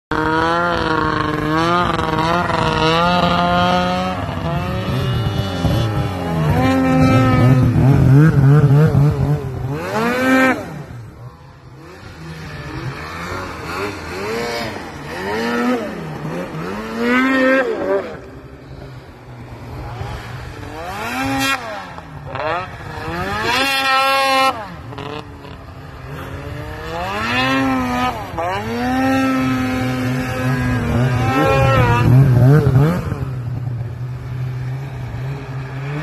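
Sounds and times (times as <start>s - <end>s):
snowmobile engine revving: 0.1s - 36.0s.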